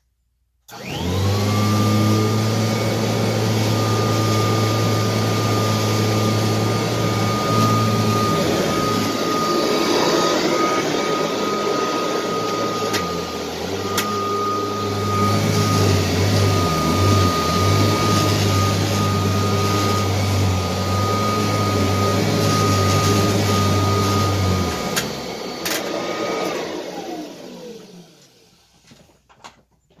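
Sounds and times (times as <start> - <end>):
vacuum cleaner motor whine: 0.7 - 29.1.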